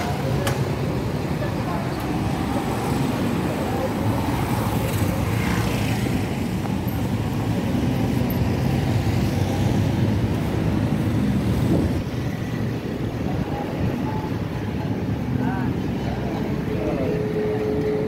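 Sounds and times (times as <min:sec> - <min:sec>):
rumble of passing traffic: 0:00.0 - 0:18.0.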